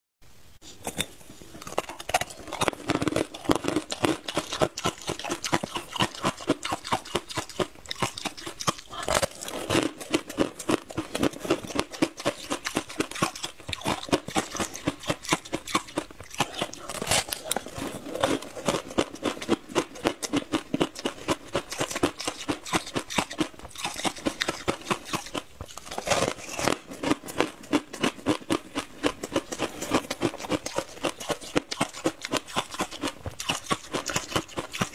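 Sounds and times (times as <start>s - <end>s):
person crunching crisp pastry: 0.8s - 34.9s.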